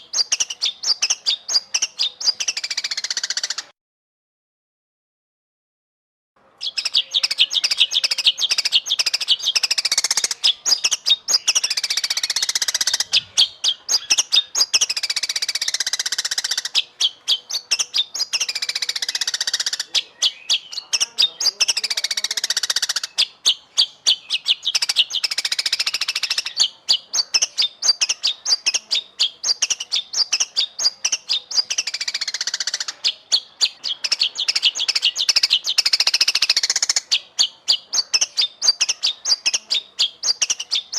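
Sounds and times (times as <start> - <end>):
bird singing trills and whistles: 0.0 - 3.7, 6.6 - 40.9.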